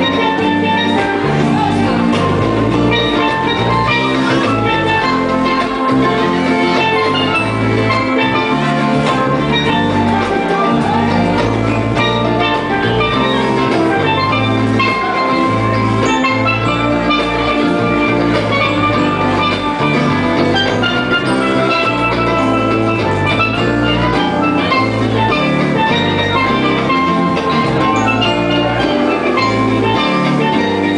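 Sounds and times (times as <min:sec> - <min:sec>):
steady bass line: 0:00.0 - 0:30.9
steel pans playing a melody: 0:00.0 - 0:30.9.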